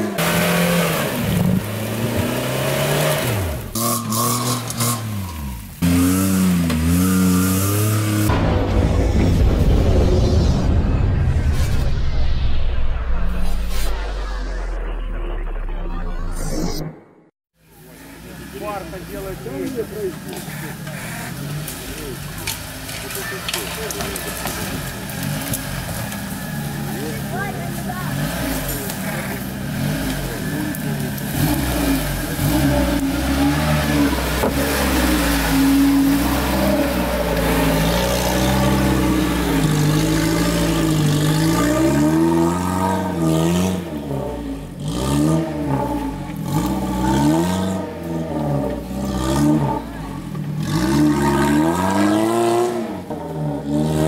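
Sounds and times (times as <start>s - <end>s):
engine revving through mud: 0.0s - 8.3s, 18.0s - 54.0s.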